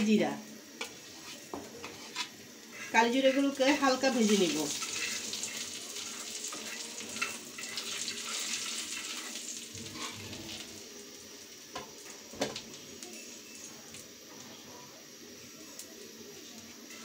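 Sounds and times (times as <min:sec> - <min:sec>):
seeds sizzling in hot oil: 0:00.0 - 0:17.0.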